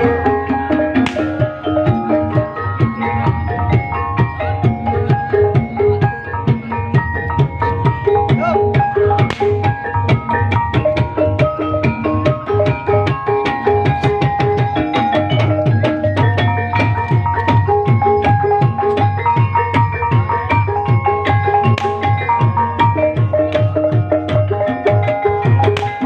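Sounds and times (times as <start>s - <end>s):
hand drums beating fast: 0.0s - 26.0s
ringing tuned percussion melody: 0.0s - 26.0s.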